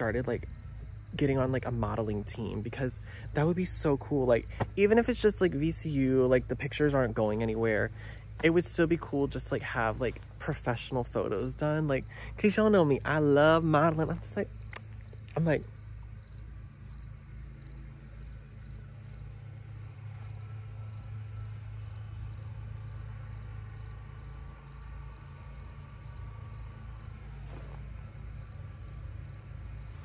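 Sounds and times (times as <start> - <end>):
cricket chirping: 0.0 - 30.0
low steady hum: 0.0 - 30.0.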